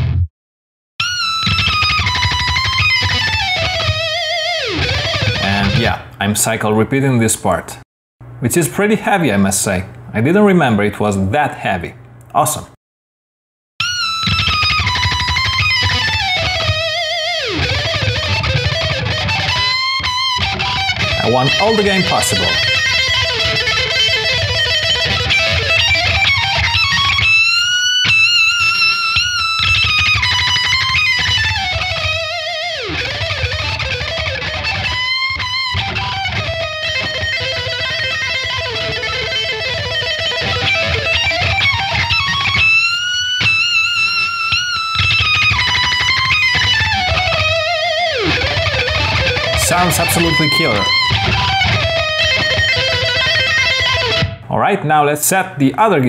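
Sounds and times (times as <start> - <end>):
distorted electric guitar metal riff: 0.0 - 0.2, 1.0 - 6.2, 13.8 - 54.5.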